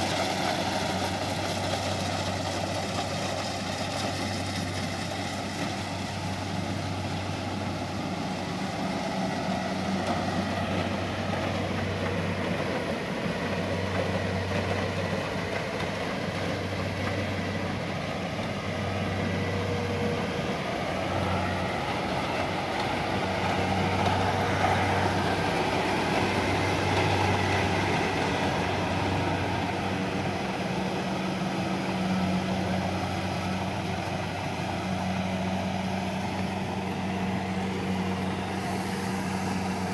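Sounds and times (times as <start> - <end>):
diesel engine droning: 0.0 - 39.9
harvester cutter and thresher noise: 0.0 - 39.9.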